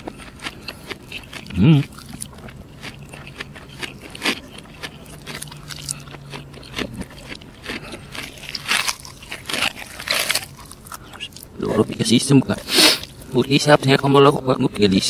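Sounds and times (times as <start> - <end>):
fried chicken crunching when chewed: 0.0 - 14.3
faint low hum: 0.0 - 15.0.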